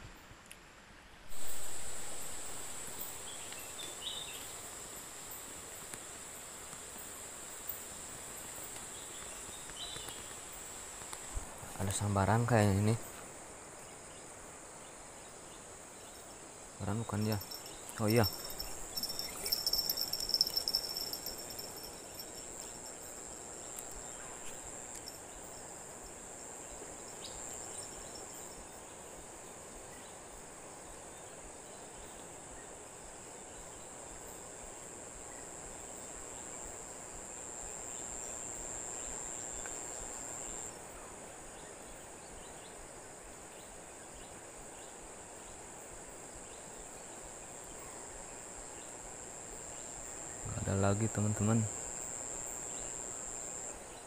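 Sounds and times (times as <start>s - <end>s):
insects droning: 1.3s - 54.0s.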